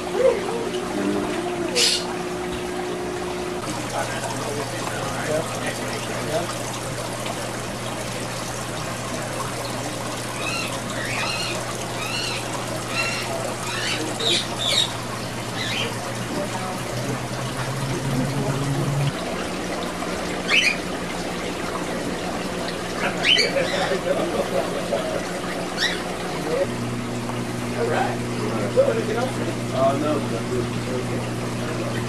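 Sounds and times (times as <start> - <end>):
aquarium water trickling: 0.0 - 32.0.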